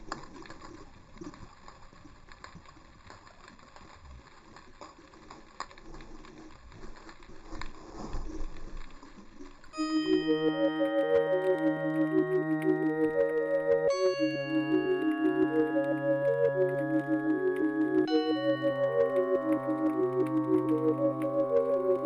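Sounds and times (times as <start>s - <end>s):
faint clicks and crackles: 0.0s - 22.0s.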